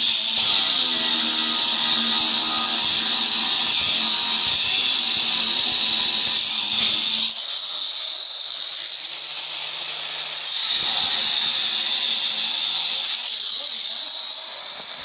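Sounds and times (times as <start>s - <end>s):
stone cutter whining: 0.0s - 15.0s.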